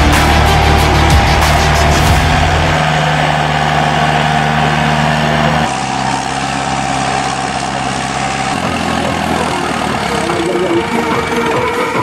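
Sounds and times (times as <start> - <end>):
tractor engine running at low revs: 0.0 - 12.0.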